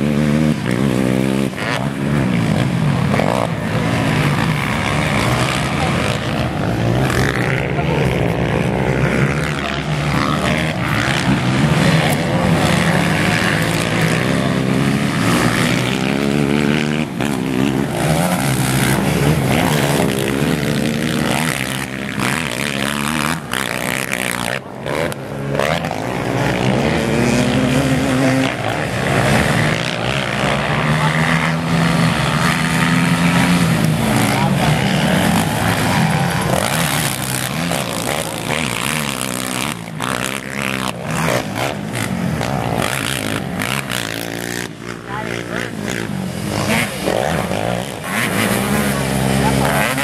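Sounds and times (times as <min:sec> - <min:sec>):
quad engines revving: 0:00.0 - 0:50.0.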